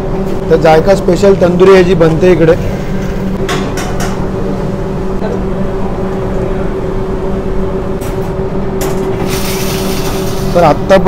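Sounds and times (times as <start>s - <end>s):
kitchen machinery hum: 0.0s - 11.0s.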